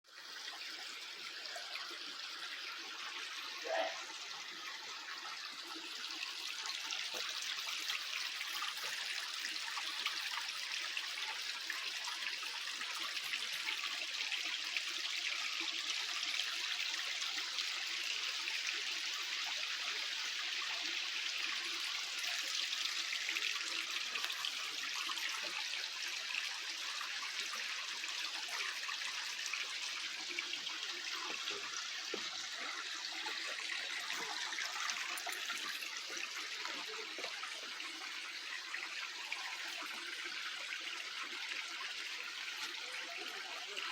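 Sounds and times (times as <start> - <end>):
stream water over rocks: 0.0 - 43.9.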